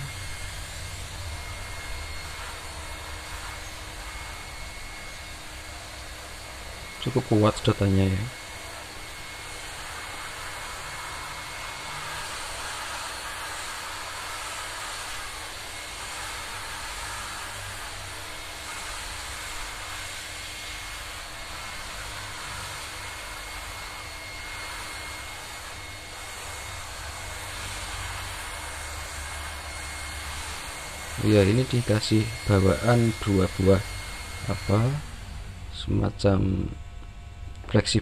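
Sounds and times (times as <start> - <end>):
hose sucking up sawdust: 0.0 - 36.6
vacuum cleaner whining: 0.0 - 38.0.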